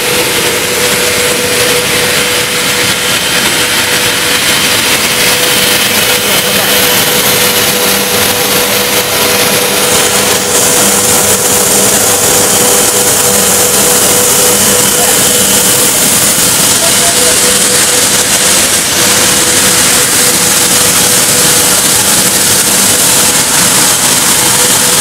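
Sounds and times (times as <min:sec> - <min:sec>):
constant machine hum: 0:00.0 - 0:25.0
rushing air: 0:00.0 - 0:25.0.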